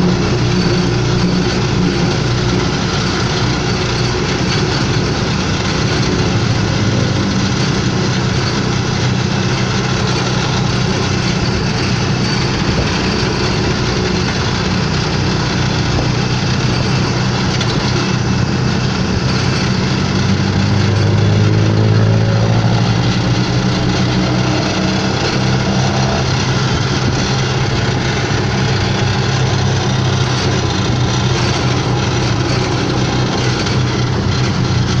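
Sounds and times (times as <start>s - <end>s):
motorcycle engine running: 0.0s - 35.0s
road noise: 0.0s - 35.0s.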